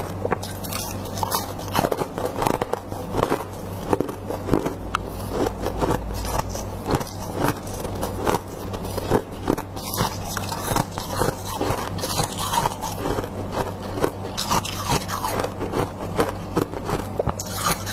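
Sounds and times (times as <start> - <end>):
crunching of frost being chewed: 0.0 - 17.9.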